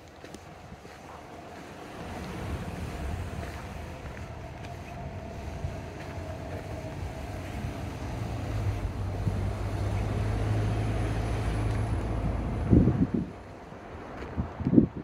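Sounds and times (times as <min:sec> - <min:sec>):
vehicle engine rumble: 0:00.0 - 0:15.0
wind buffeting microphone: 0:00.0 - 0:15.0.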